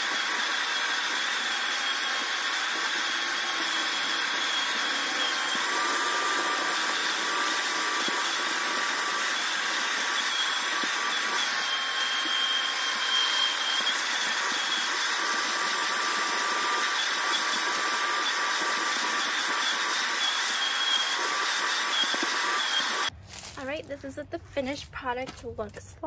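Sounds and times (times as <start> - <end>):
vacuum cleaner whining: 0.0 - 23.1.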